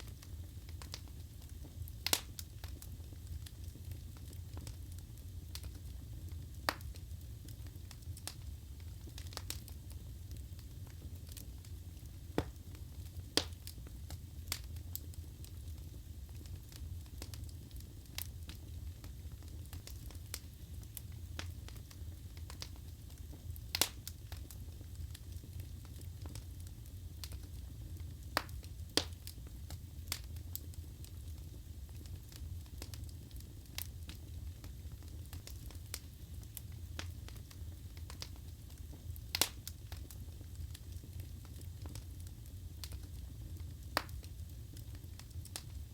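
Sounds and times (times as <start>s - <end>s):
burning logs crackling and popping: 0.0s - 45.9s
fire flames rumbling: 0.0s - 45.9s.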